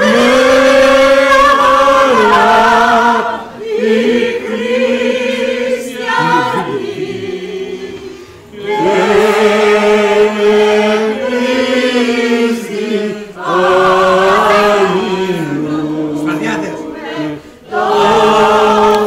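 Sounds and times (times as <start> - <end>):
group singing a carol: 0.0 - 19.0.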